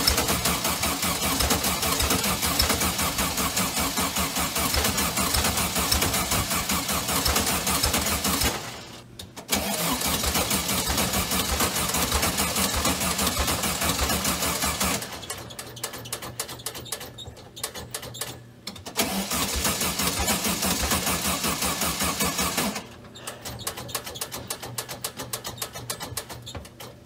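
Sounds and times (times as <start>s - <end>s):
engine cranking by starter: 0.0s - 26.6s.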